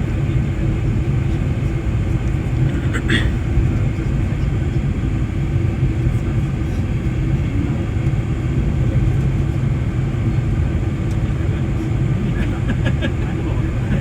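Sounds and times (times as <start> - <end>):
airliner engine rumble: 0.0 - 14.0.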